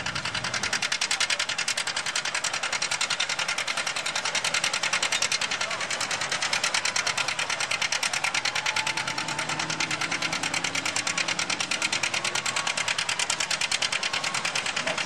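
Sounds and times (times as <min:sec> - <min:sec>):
tractor engine ticking: 0:00.0 - 0:15.0.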